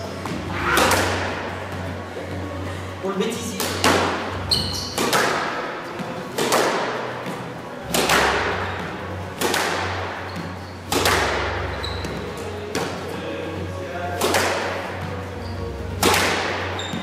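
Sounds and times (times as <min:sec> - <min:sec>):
squash ball hitting racket and wall: 0:00.0 - 0:02.0, 0:03.6 - 0:13.2, 0:14.0 - 0:15.3, 0:15.9 - 0:17.0.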